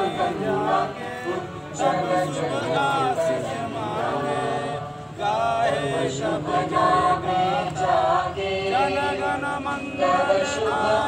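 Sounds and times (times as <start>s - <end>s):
group singing in unison: 0.0s - 11.0s.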